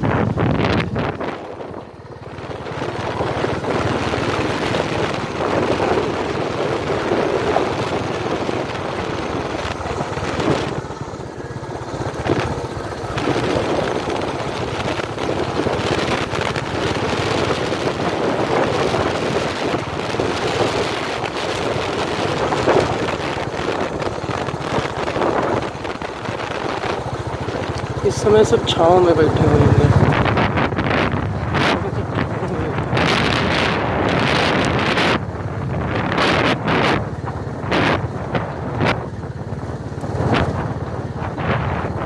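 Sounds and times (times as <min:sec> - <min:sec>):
tyres on dirt track: 0:00.0 - 0:42.0
vehicle engine: 0:00.0 - 0:42.0
wind buffeting microphone: 0:00.0 - 0:42.0.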